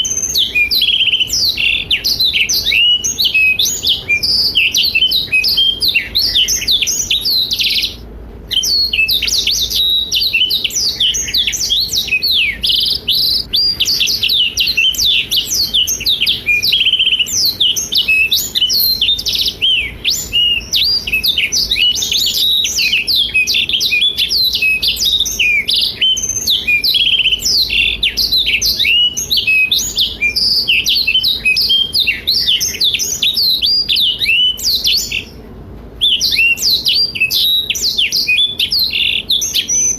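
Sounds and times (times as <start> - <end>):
canary twittering song: 0.0 - 35.4, 36.0 - 39.9.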